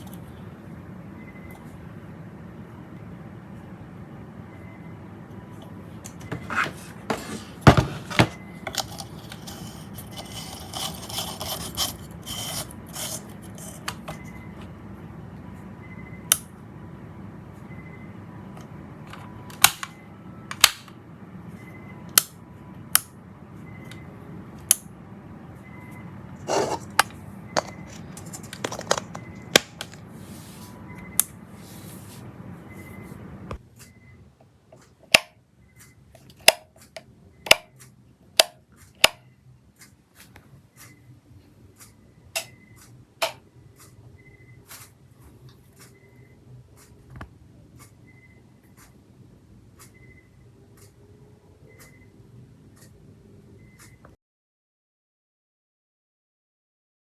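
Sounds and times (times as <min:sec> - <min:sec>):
steady low hum: 0:00.0 - 0:54.1.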